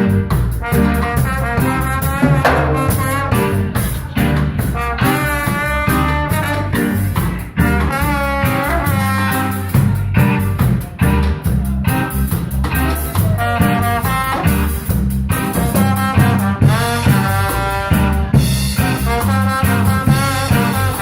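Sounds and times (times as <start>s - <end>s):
live band playing jazz-ska: 0.0s - 21.0s.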